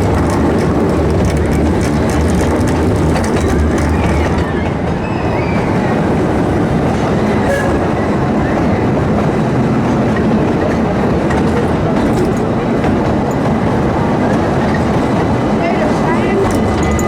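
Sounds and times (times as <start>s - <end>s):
steam train running on track: 0.0s - 17.0s.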